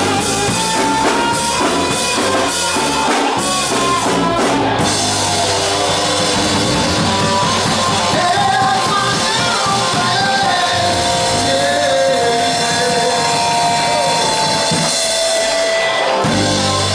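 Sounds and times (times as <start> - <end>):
drum kit: 0.0 - 16.9
electric guitar: 0.0 - 16.9
person singing: 0.0 - 16.9.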